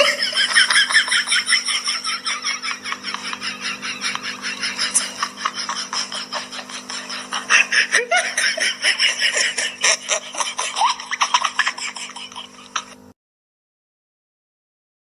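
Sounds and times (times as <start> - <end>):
person laughing breathily: 0.0 - 13.1.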